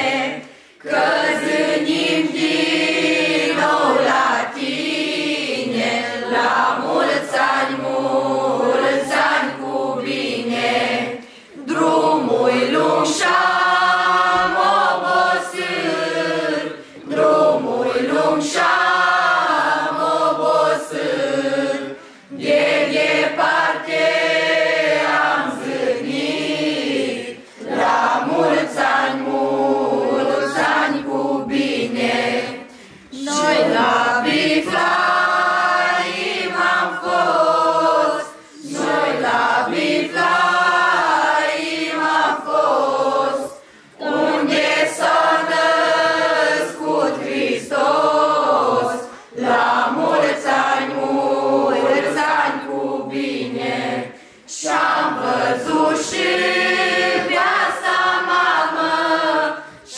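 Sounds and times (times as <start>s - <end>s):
group singing unaccompanied carol: 0.0s - 59.9s.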